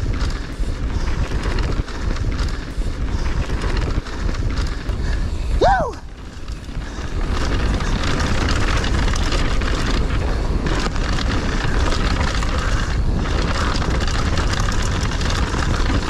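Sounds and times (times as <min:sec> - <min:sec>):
bike knocks and rattles: 0:00.0 - 0:05.4, 0:06.2 - 0:16.0
bike tyre noise: 0:00.0 - 0:16.0
wind rushing over microphone: 0:00.0 - 0:16.0.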